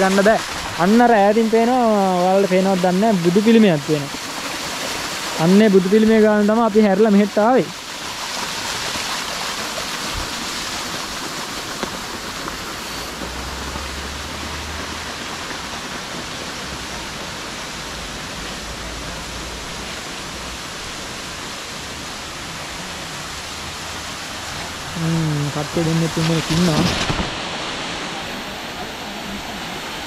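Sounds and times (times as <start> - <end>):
rain and running water: 0.0 - 30.0.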